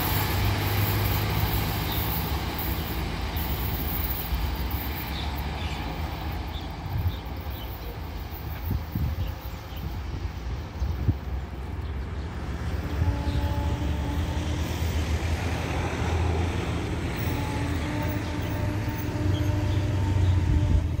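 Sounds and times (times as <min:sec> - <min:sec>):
locomotive engine drone: 0:00.0 - 0:21.0.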